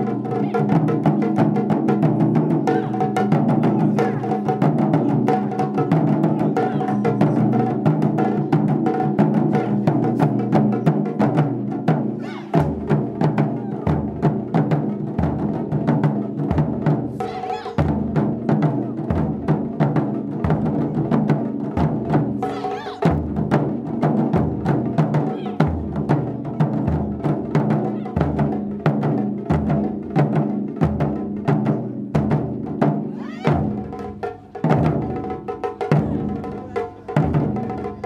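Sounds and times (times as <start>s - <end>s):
fast drum strikes: 0.0s - 38.0s.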